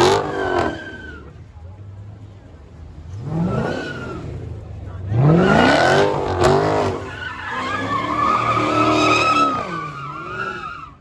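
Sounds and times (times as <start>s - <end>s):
car engine revving: 0.0s - 10.9s
tires squealing: 0.0s - 11.0s.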